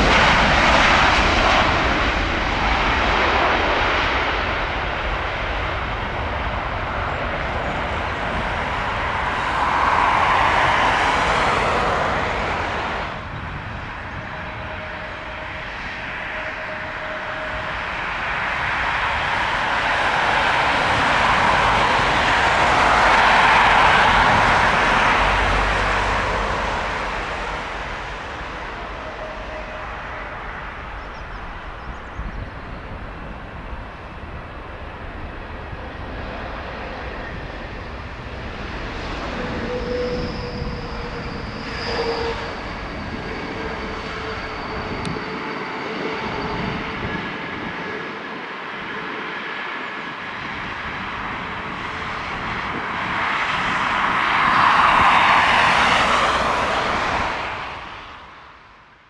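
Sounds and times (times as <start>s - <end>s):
faint jet engine whine: 0.0s - 59.0s
jet engines roaring: 0.0s - 59.0s.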